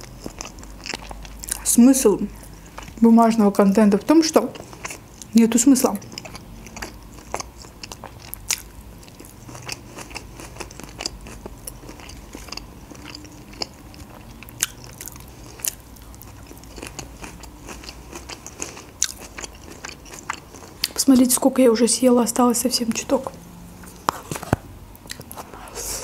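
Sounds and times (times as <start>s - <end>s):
person chewing with crisp crunches: 0.0s - 21.2s, 23.8s - 26.0s.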